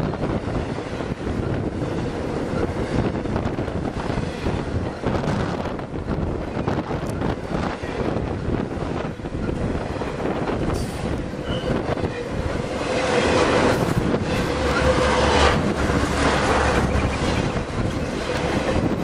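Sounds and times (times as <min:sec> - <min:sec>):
clacking over rail joints: 0:00.0 - 0:19.0
train wheels rumbling: 0:00.0 - 0:19.0.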